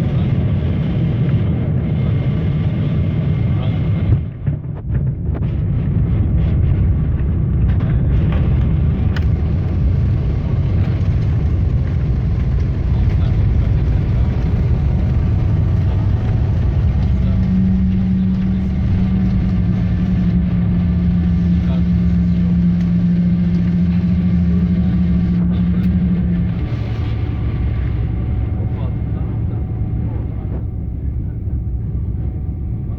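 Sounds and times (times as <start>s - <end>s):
airliner cabin rumble: 0.0s - 32.9s
low hum: 0.0s - 32.9s.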